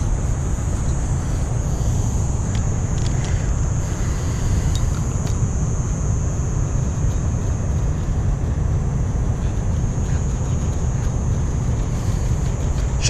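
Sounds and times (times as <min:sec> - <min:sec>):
high-pitched drone: 0:00.0 - 0:13.0.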